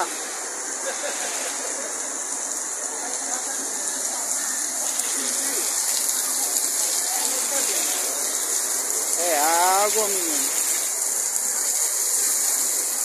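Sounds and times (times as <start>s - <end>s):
heavy rain on pavement: 0.0s - 13.0s
rain on tarp awnings: 0.0s - 13.0s.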